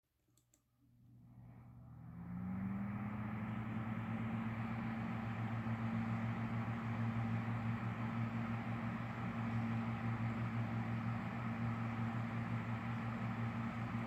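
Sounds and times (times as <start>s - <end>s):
exhaust fan running: 1.3s - 14.0s.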